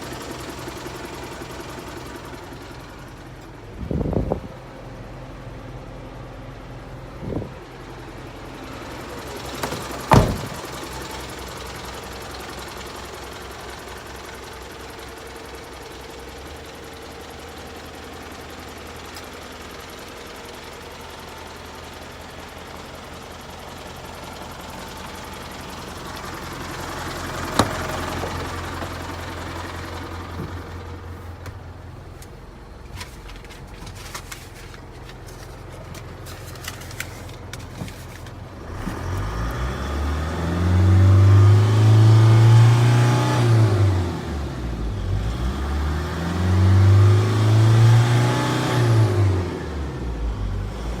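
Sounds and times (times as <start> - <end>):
truck engine idling and revving: 0.0 - 51.0.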